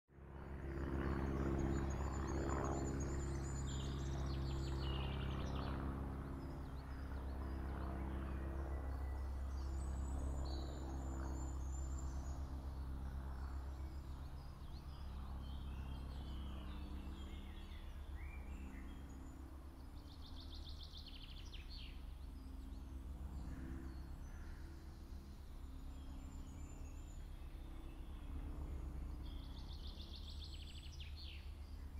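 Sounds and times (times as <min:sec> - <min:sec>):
steady low hum: 0:00.1 - 0:31.9.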